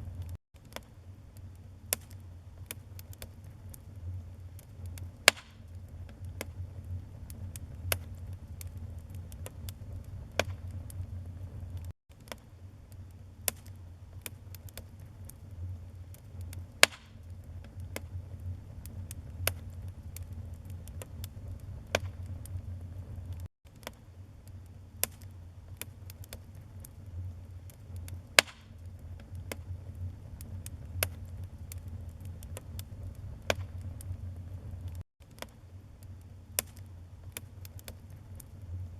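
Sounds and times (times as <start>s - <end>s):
fire crackles and sharp pops: 0.0s - 38.9s
low rumble of flames: 0.0s - 38.9s.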